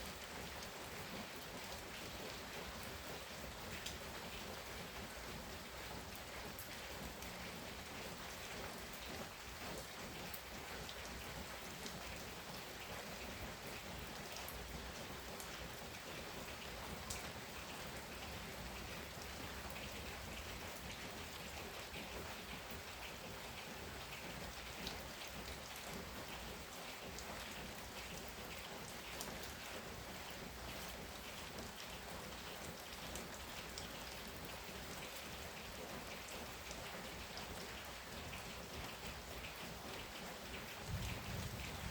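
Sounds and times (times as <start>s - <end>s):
heavy rain pouring: 0.0s - 41.9s
raindrops ticking on hard surface: 0.1s - 41.9s.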